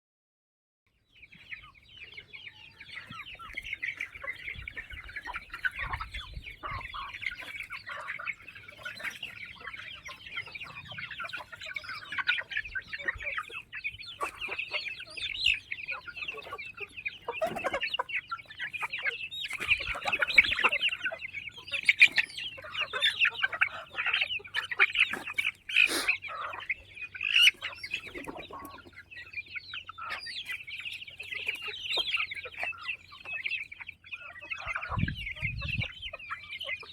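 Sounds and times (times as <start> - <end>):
chickens clucking and cheeping: 0.9 - 36.9.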